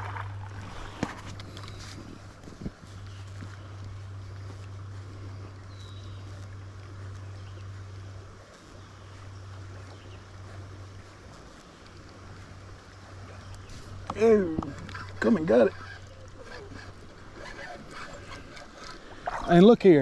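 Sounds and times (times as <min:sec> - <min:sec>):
fishing reel gear hum: 0:00.0 - 0:20.0
moving water: 0:00.0 - 0:20.0.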